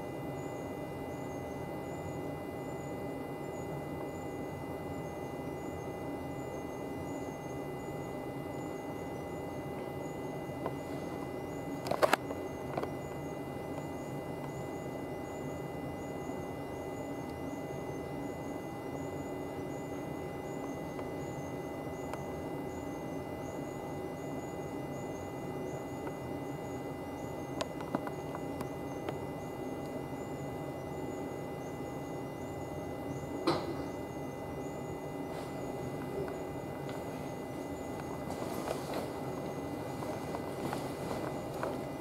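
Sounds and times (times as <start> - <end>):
train electrical hum and whine: 0.0 - 42.0.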